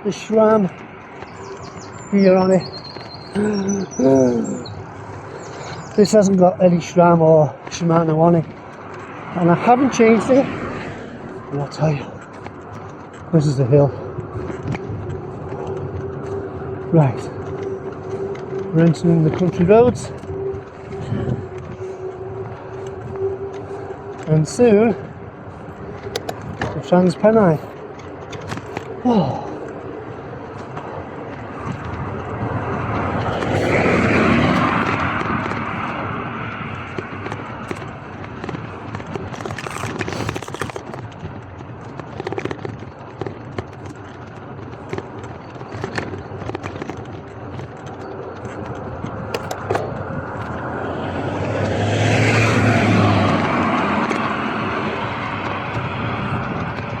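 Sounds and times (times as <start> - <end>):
cars passing on wet road: 0.0 - 57.0
wind and road noise: 0.0 - 57.0.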